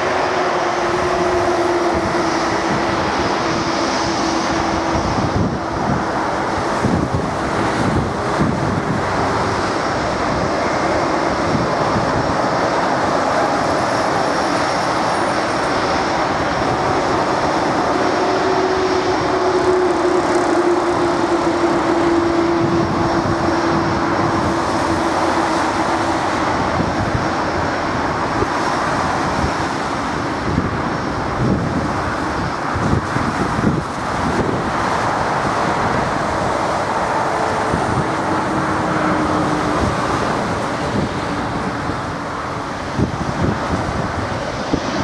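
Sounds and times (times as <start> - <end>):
jet engines on take-off: 0.0 - 45.0.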